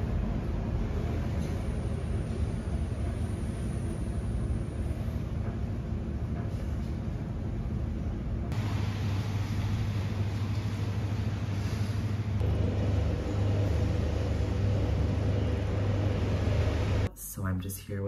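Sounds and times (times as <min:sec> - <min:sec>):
higher machine hum: 0:00.0 - 0:17.1
laundry machines humming: 0:00.0 - 0:17.1.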